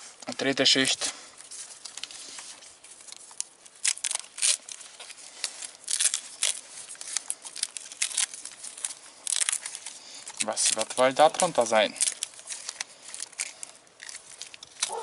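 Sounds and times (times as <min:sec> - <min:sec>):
tape peeling and crinkling: 0:00.0 - 0:15.0.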